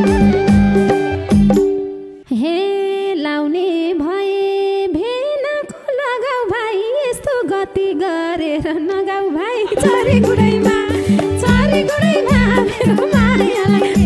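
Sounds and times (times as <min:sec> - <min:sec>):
woman singing unaccompanied: 0:02.3 - 0:14.0.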